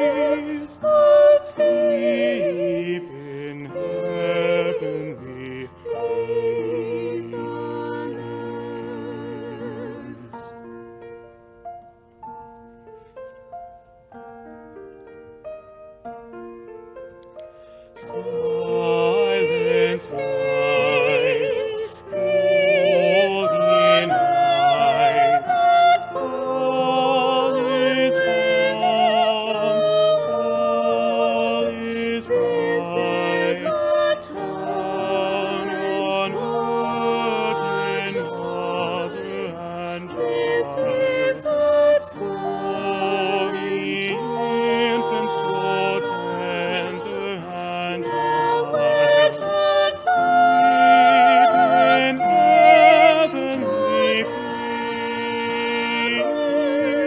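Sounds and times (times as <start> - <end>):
voices singing in harmony: 0.0 - 11.2, 17.3 - 57.0
piano accompaniment: 0.0 - 57.0.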